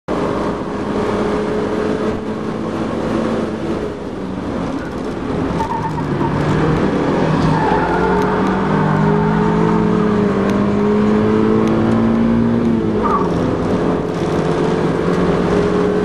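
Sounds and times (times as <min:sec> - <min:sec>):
car engine under way: 0:00.1 - 0:16.0.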